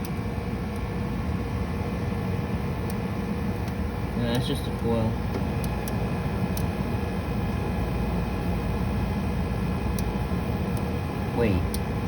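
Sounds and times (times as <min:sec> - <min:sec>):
dehumidifier humming: 0:00.0 - 0:12.0.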